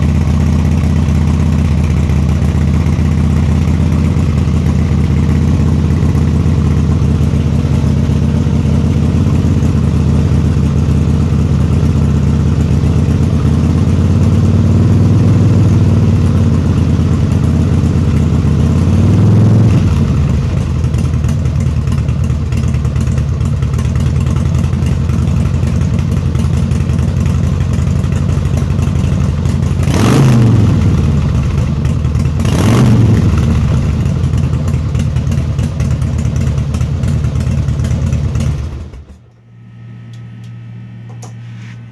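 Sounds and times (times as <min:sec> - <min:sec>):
motorcycle engine idling: 0:00.0 - 0:39.2.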